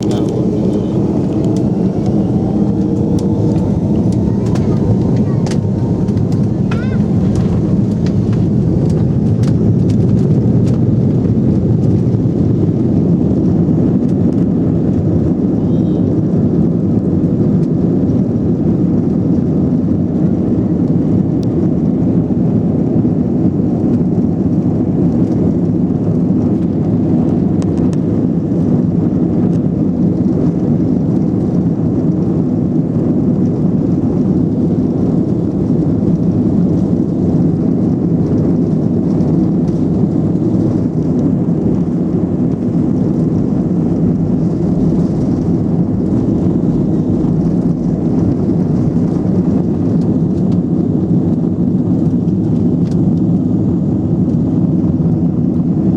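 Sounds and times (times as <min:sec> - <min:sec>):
airplane engines rumbling: 0:00.0 - 0:19.6, 0:25.2 - 0:55.9.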